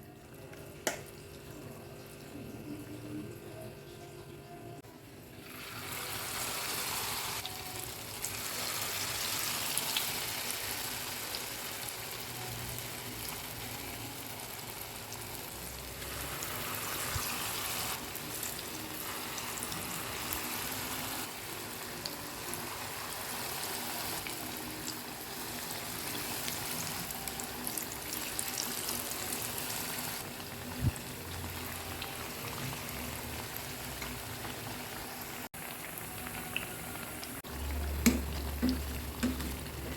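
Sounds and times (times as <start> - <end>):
fritters sizzling in oil: 5.4 - 39.9.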